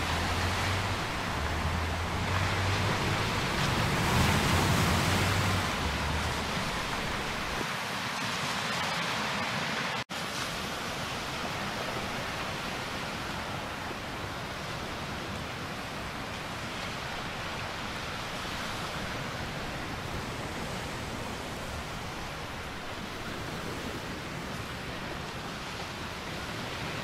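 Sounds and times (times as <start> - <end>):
small waves washing onto sand: 0.0 - 27.0.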